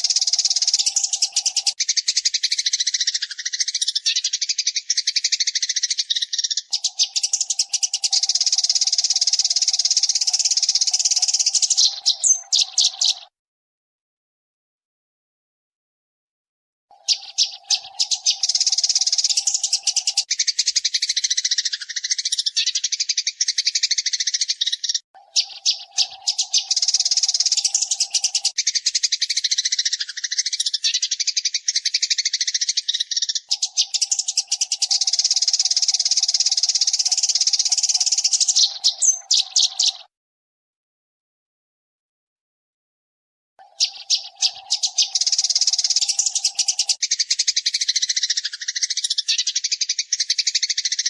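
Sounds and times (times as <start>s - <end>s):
sparrow chattering: 0.0s - 13.3s, 16.9s - 40.1s, 43.6s - 51.0s.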